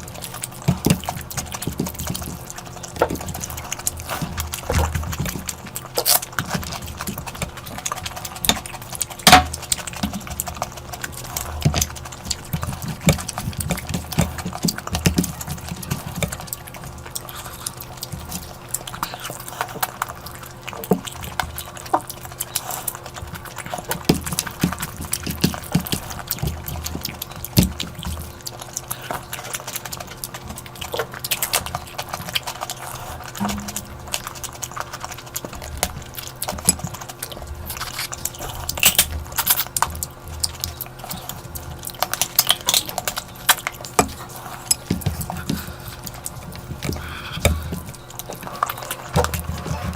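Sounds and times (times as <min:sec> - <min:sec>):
person eating with wet mouth sounds: 0:00.0 - 0:49.9.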